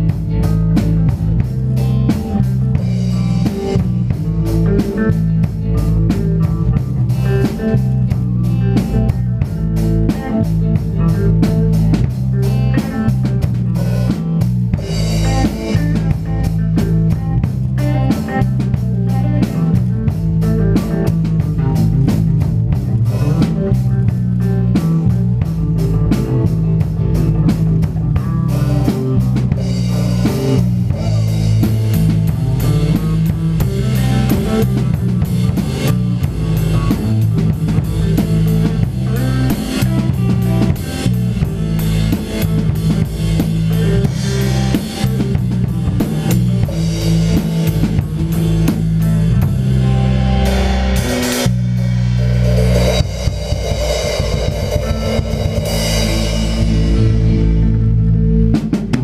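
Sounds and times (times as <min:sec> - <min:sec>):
drum kit beat: 0:00.0 - 0:59.0
rock band playing: 0:00.0 - 0:59.0.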